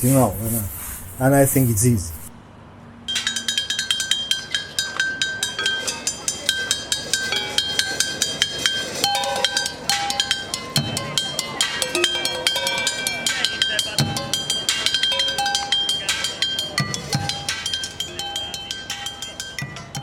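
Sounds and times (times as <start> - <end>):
drumming on found objects: 3.1 - 20.0
metal pans clinking: 3.1 - 20.0.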